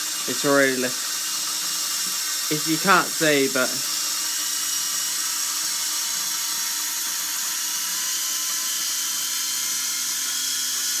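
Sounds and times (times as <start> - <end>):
toy helicopter rotors whining: 0.0 - 11.0.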